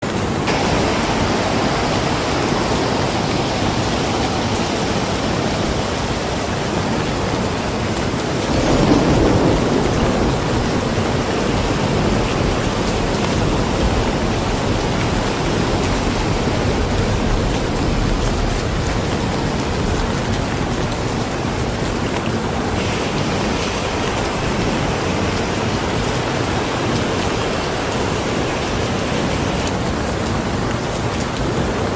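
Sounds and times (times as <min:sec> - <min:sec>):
flooded river rushing: 0:00.0 - 0:31.9
heavy rain pouring: 0:00.0 - 0:31.9.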